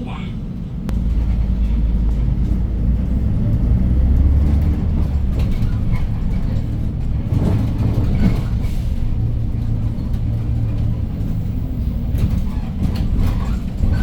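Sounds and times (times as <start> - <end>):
bus body rattling: 0.0 - 14.0
bus engine drone: 0.0 - 14.0.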